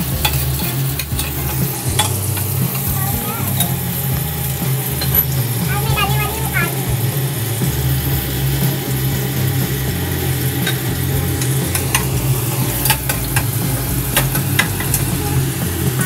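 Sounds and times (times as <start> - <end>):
low hum: 0.0 - 16.0
vegetables sizzling in hot oil: 0.0 - 16.0.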